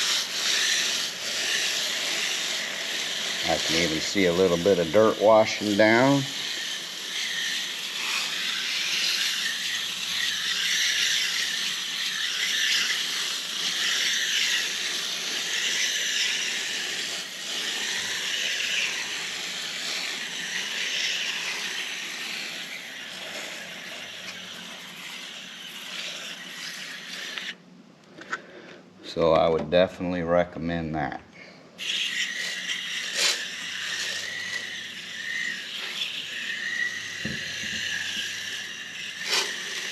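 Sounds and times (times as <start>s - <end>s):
spray bottle hissing: 0.0s - 27.6s, 31.8s - 39.9s.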